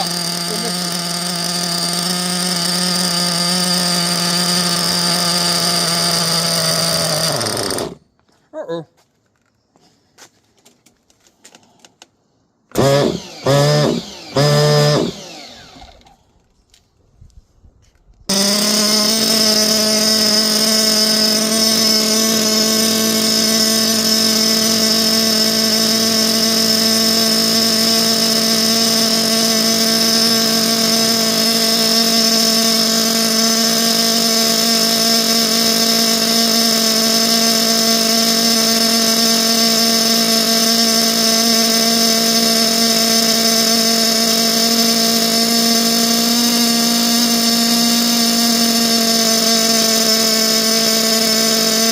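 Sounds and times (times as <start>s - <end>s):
model engine running steadily: 0.0s - 8.0s, 12.7s - 16.2s, 18.3s - 51.9s
starter box cranking engine: 0.0s - 8.0s, 12.7s - 16.2s, 18.3s - 51.9s.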